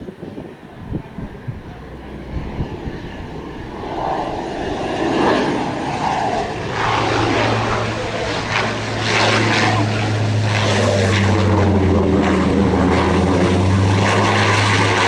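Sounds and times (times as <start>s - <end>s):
steady low hum: 0.0s - 15.0s
turboprop aircraft engine and propeller: 0.0s - 15.0s.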